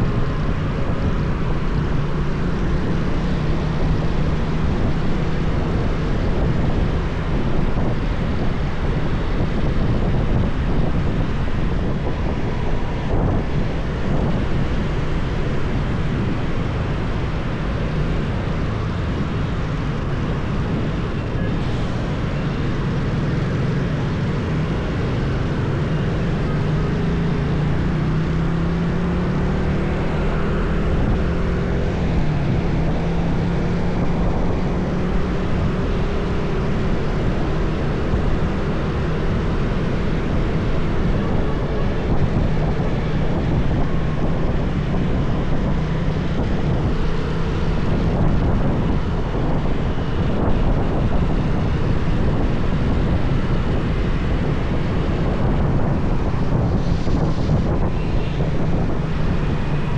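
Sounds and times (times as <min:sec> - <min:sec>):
rushing noise: 0:00.0 - 0:59.9.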